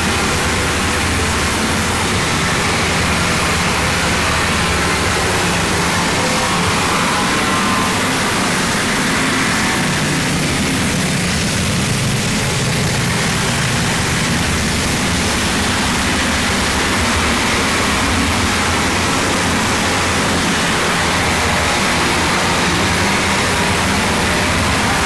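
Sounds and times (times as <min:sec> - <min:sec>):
loud distorted noise wall: 0:00.0 - 0:25.0.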